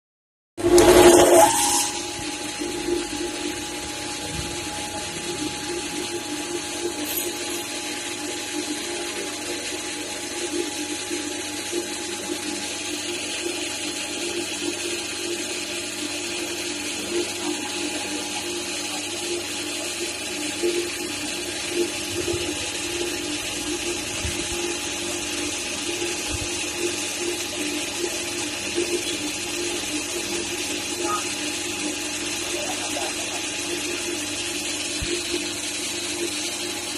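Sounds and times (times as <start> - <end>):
milling spindle humming: 0.6 - 36.9.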